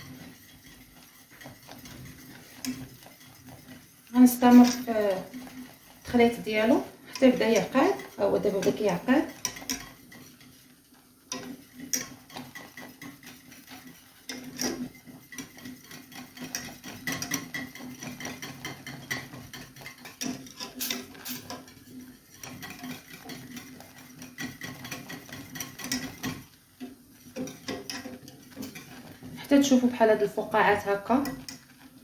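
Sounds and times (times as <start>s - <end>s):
utensil stirring and scraping pot: 0.0s - 32.0s.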